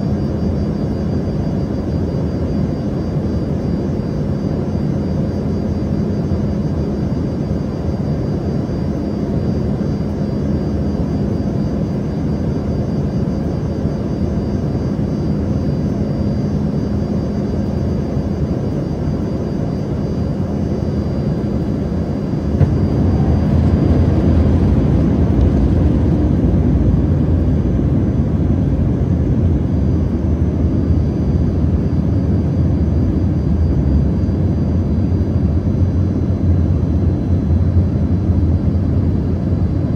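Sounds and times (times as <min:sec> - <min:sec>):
faint steady whines: 0:00.0 - 0:39.9
jet engine cabin drone: 0:00.0 - 0:39.9.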